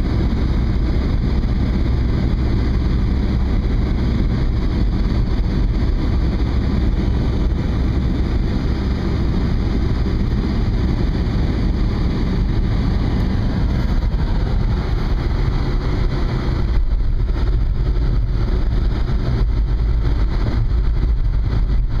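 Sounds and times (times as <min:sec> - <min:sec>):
road and wind noise inside car: 0:00.0 - 0:22.0.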